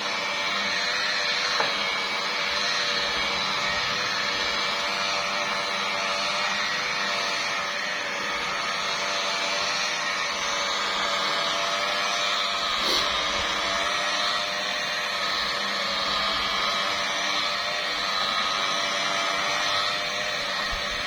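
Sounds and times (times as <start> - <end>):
electric polisher motor whine: 0.0 - 21.0.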